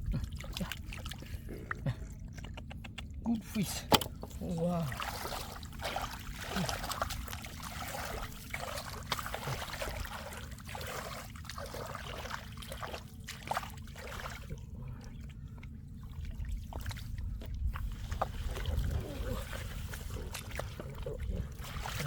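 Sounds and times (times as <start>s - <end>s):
floodwater splashing and trickling: 0.0s - 22.0s.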